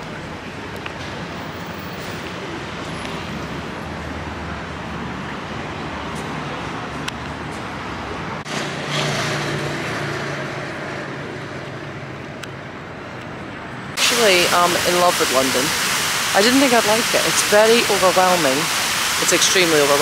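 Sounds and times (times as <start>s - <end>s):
passing cars: 0.0s - 20.0s.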